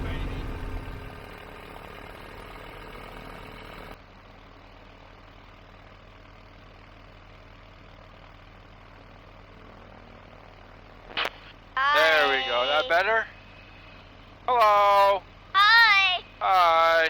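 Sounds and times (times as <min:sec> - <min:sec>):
aircraft engine idling: 0:00.0 - 0:17.0.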